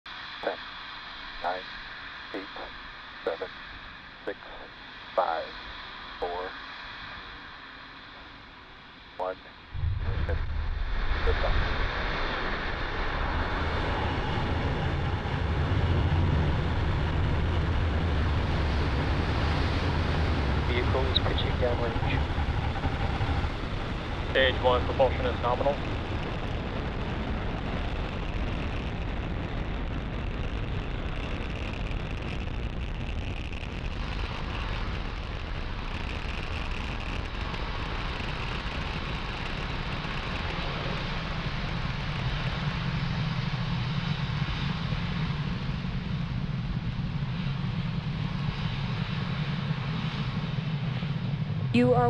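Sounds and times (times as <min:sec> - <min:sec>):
rocket engines roaring: 0:00.2 - 0:52.0.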